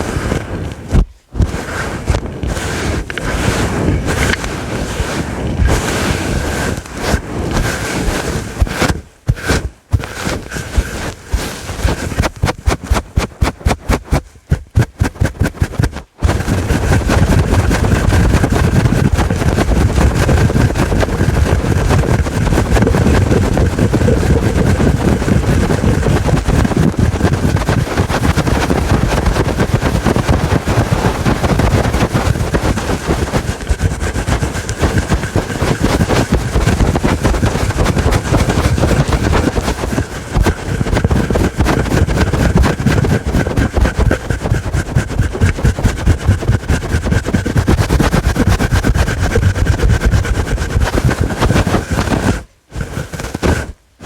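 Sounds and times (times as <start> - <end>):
furry microphone cover scratched: 0.0 - 54.0.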